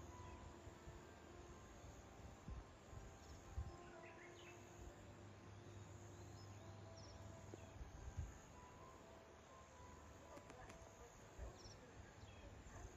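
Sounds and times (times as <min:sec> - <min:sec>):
faint high chirps: 0:00.0 - 0:12.9.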